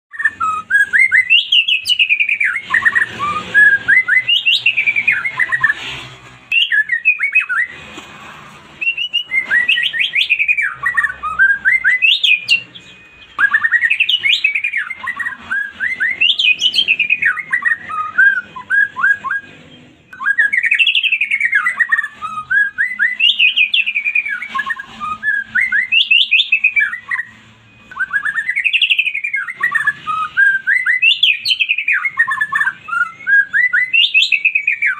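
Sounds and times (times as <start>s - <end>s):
songbird whistling: 0.1s - 5.9s, 6.5s - 7.8s, 8.8s - 34.9s.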